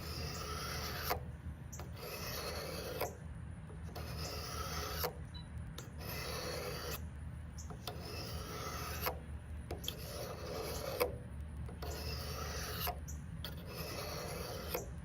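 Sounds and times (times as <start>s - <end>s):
knife rasping on sharpening rod: 0.0s - 3.2s, 3.8s - 5.2s, 5.8s - 15.0s.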